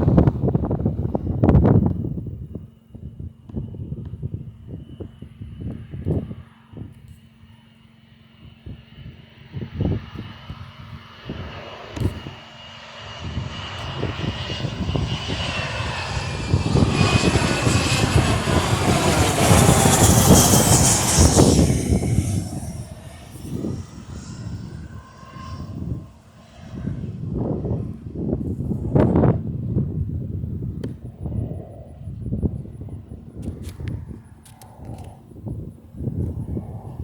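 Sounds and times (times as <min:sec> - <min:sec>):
jet airliner passing with whine: 0:00.0 - 0:37.0.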